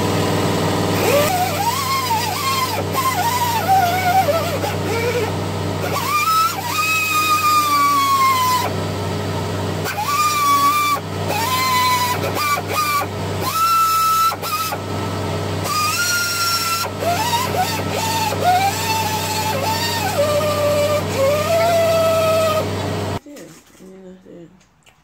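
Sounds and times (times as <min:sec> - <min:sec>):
air die grinder whining: 0:00.0 - 0:23.2.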